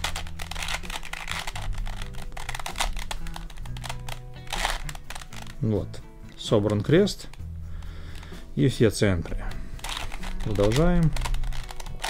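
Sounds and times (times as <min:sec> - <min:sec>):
plastic puzzle cube clicking: 0:00.0 - 0:08.3, 0:09.8 - 0:12.0.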